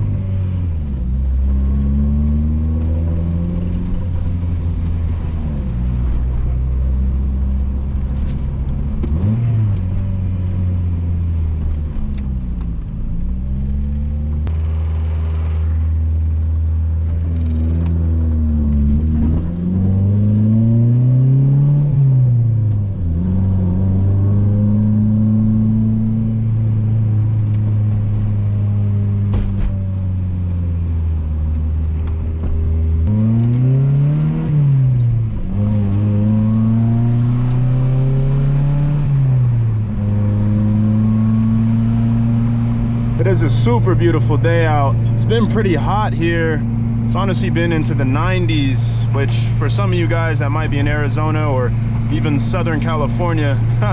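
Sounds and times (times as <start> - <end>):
car engine revving while driving: 0.0 - 53.9.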